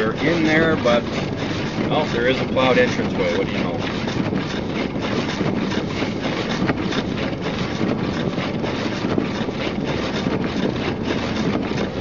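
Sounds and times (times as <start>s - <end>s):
tyre noise on snowy road: 0.0s - 12.0s.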